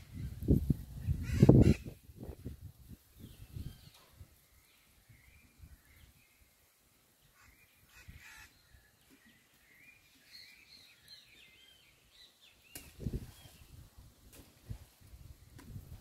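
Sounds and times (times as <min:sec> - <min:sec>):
small birds chirping: 0:00.1 - 0:13.9.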